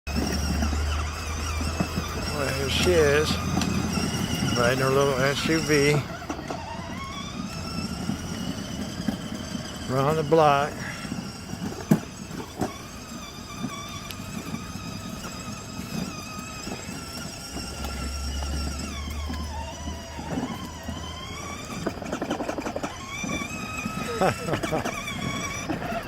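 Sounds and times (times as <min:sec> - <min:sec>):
rapid rattle: 0:00.1 - 0:26.0
toy truck motor whining: 0:00.1 - 0:26.0.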